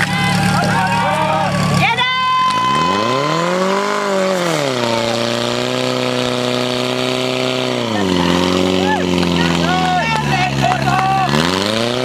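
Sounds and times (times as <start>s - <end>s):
pump engine revving: 0.0s - 12.0s.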